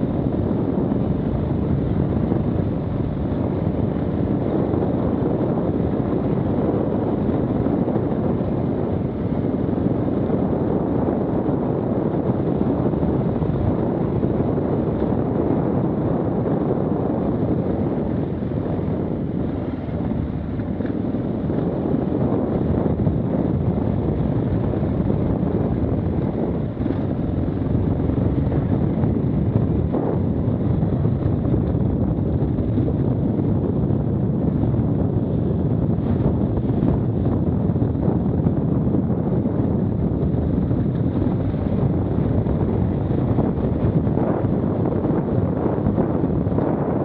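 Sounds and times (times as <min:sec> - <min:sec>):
wind noise on microphone: 0:00.0 - 0:47.0.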